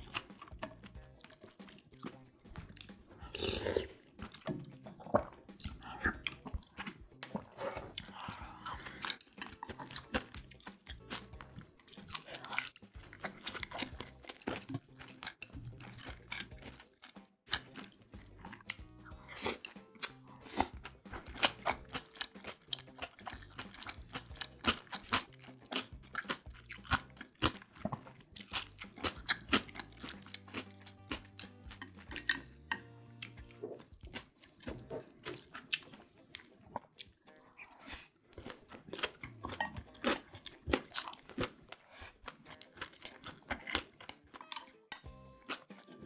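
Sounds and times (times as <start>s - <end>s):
crunchy chewing: 0.0s - 46.0s.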